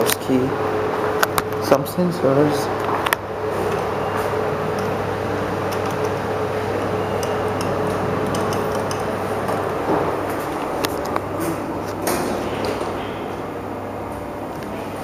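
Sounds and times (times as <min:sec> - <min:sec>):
elevator hum and hiss: 0:00.0 - 0:15.0.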